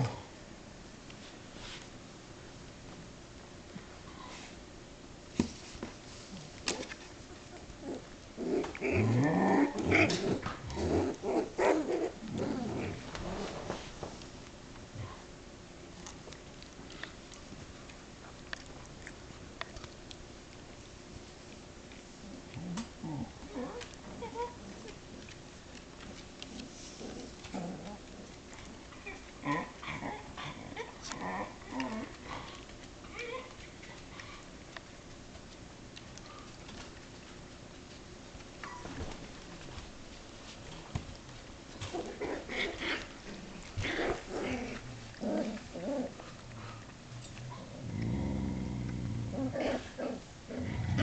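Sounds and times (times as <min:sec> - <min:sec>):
puppies growling in play: 0:00.0 - 0:00.4, 0:05.8 - 0:51.0.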